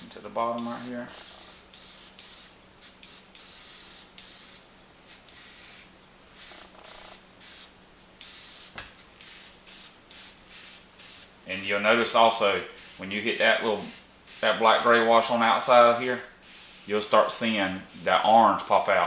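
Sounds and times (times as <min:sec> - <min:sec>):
airbrush spraying bursts: 0:00.5 - 0:19.0.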